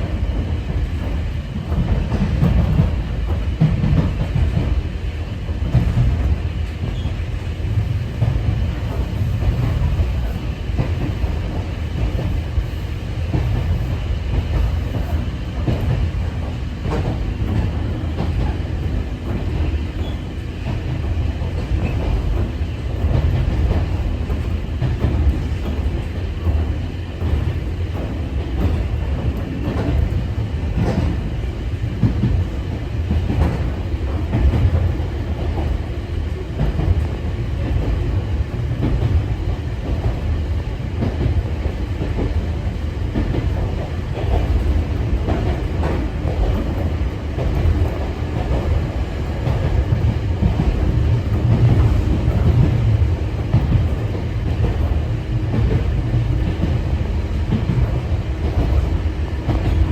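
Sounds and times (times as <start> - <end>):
train interior low rumble: 0.0 - 59.9.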